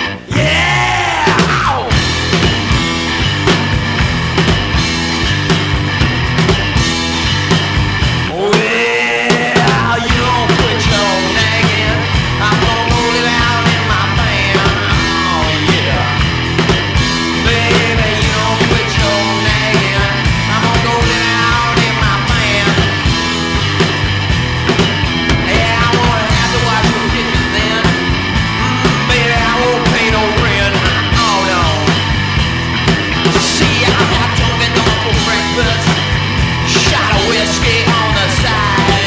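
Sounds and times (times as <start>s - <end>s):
rock and roll band playing: 0.0s - 39.0s.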